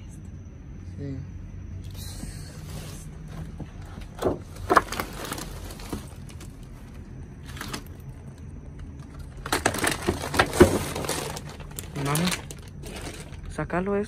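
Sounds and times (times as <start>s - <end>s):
trash rustling and crinkling: 2.3s - 14.0s.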